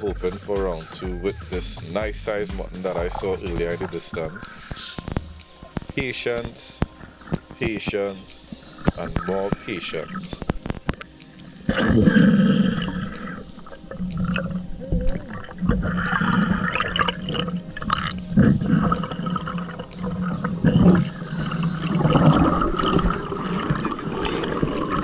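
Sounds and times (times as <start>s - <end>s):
underwater bubbling: 0.0s - 25.0s.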